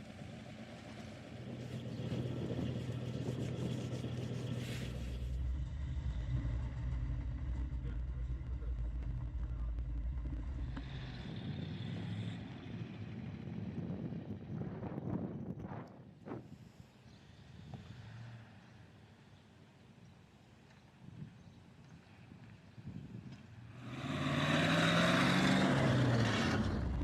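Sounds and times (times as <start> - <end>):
bus engine rumbling: 0.0 - 19.2, 24.4 - 27.0.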